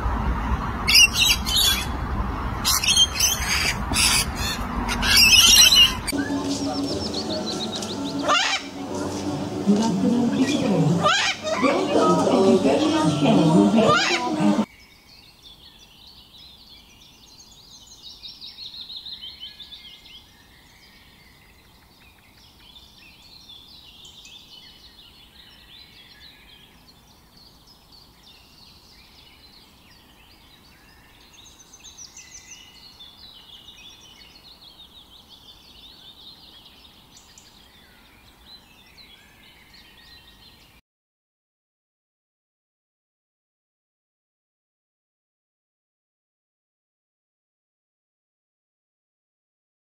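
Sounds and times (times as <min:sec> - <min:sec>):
birds chirping and twittering: 0:00.4 - 0:40.8.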